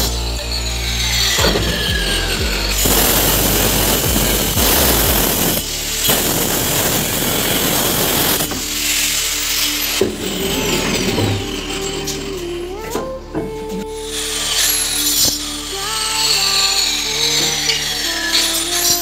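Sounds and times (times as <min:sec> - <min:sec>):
power cutter sawing through marble: 0:00.0 - 0:12.2, 0:14.1 - 0:19.0.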